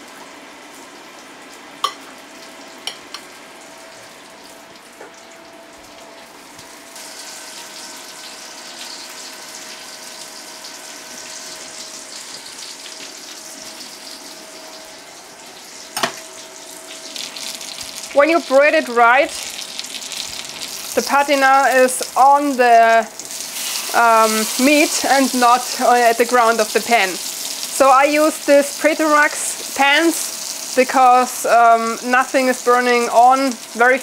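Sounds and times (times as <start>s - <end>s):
meat sizzling in a pan: 6.7s - 34.0s.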